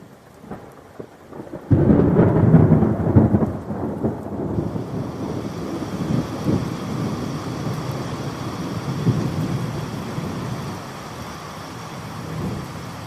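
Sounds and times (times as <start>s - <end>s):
steady rain hiss: 0.0s - 13.0s
thunder rumbling: 0.4s - 13.0s.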